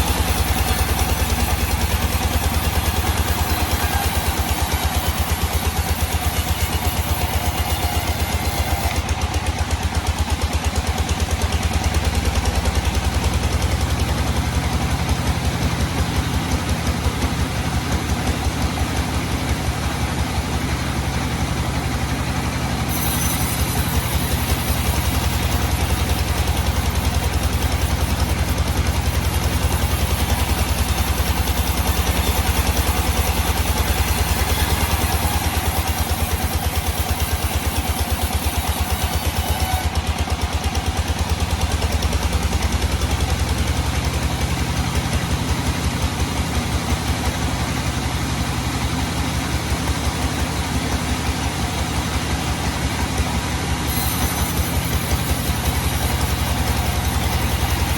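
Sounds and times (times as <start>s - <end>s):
sawmill engine running: 0.0s - 57.9s.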